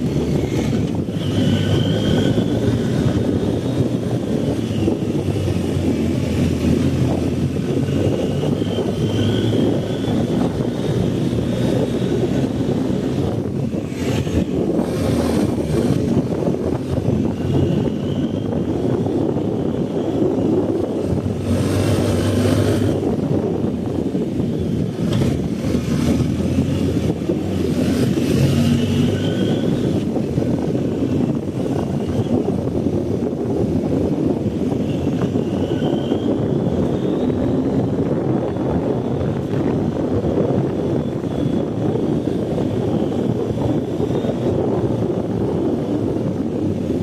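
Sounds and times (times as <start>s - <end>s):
motorcycle engine running: 0.0s - 47.0s
rush of noise: 0.0s - 47.0s.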